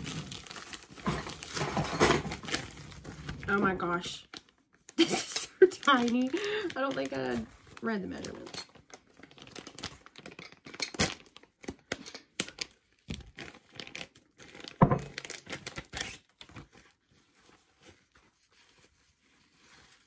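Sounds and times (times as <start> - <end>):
plastic bag crinkling and tearing: 0.0 - 20.0.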